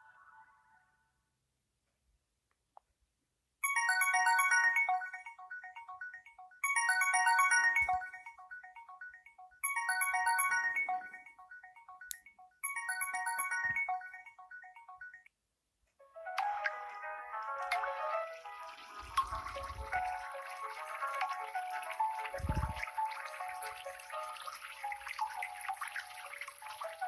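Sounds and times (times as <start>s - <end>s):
phone ringtone chiming melody: 3.6s - 15.3s, 16.2s - 27.0s.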